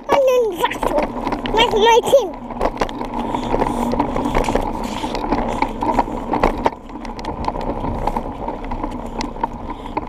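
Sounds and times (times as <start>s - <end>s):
bike clicks and rattles: 0.0s - 10.0s
small wheels rumbling on concrete: 0.0s - 10.0s.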